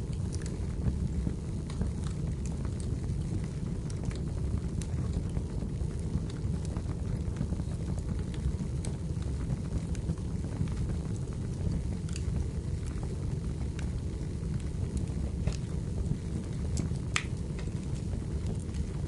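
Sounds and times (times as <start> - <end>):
fire crackles and pops: 0.0 - 19.0
fire low rumble: 0.0 - 19.0.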